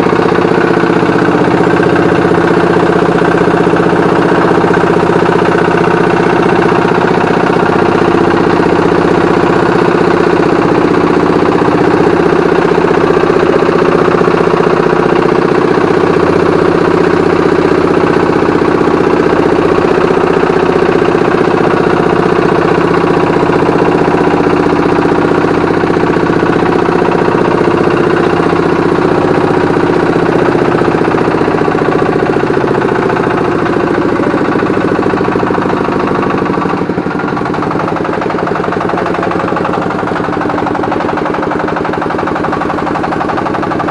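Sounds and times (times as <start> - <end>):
boat engine running: 0.0 - 43.9.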